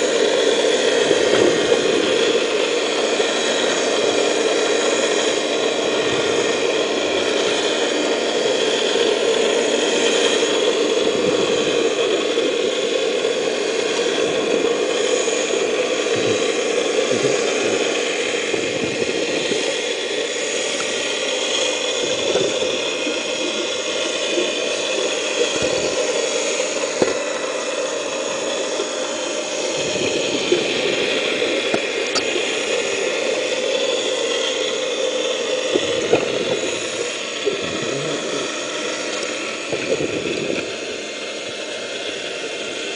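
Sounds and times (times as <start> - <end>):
dredge mechanical drone: 0.0 - 42.9.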